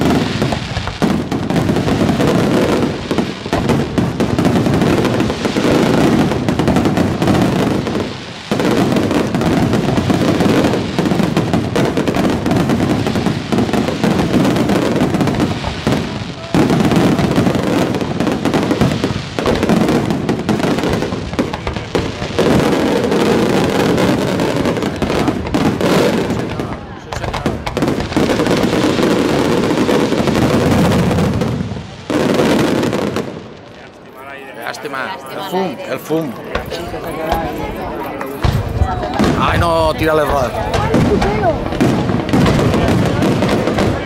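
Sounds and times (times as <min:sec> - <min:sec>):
fireworks bursts and crackling: 0:00.0 - 0:44.0.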